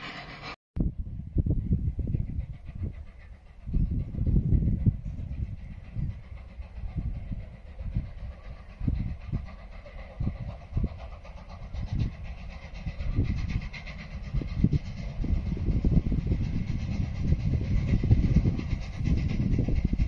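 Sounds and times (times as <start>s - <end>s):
steam locomotive exhaust beats: 0.0s - 20.0s
wind rumbling on microphone: 0.8s - 20.0s.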